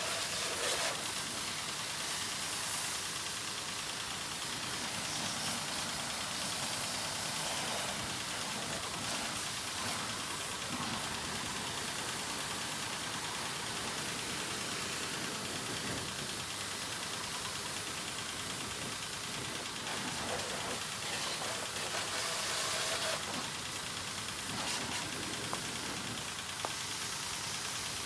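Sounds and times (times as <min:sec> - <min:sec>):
water spraying hiss: 0:00.0 - 0:03.8, 0:04.4 - 0:28.0.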